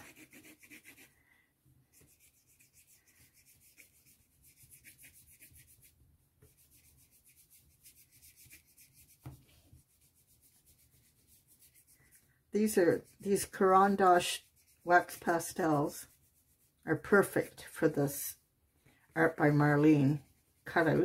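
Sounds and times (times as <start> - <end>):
brush rubbing on paper: 0.0 - 1.2, 1.8 - 18.4, 19.1 - 21.0.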